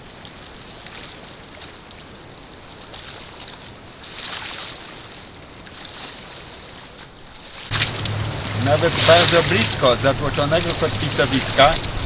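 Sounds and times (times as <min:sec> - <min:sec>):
light wind: 0:00.0 - 0:12.0
waves splashing against rocks: 0:00.0 - 0:12.0.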